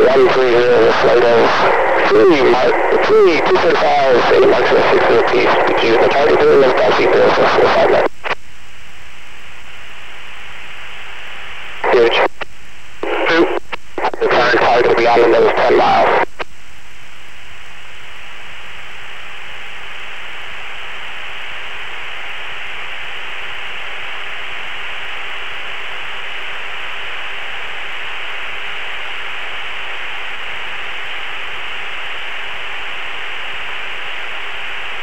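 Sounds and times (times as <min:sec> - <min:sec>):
faint steady hum: 0:00.0 - 0:35.0
radio hiss: 0:00.0 - 0:35.0.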